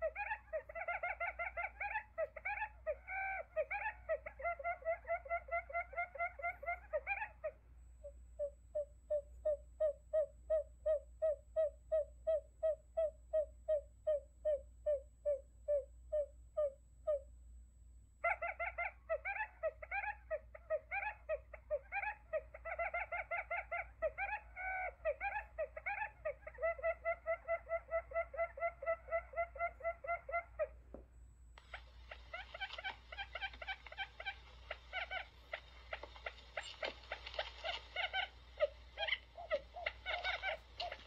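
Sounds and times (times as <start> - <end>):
recorded quail calls: 0.0 - 17.3, 18.2 - 30.9, 31.6 - 41.0.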